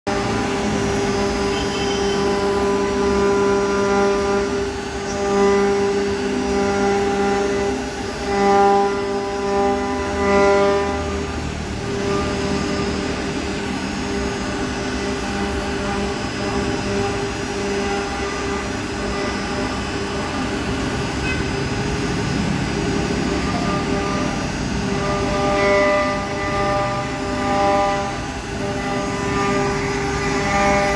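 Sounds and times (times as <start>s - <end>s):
cnc router whine: 0.1s - 30.9s.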